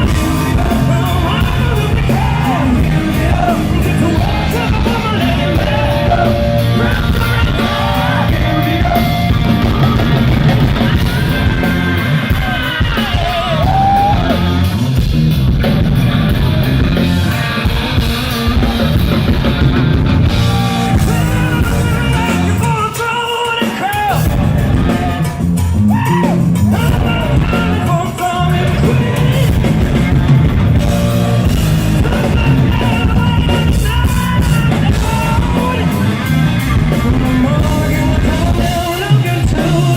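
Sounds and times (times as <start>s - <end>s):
person singing: 0.0s - 14.7s, 20.3s - 39.9s
rock band playing live: 0.0s - 39.9s.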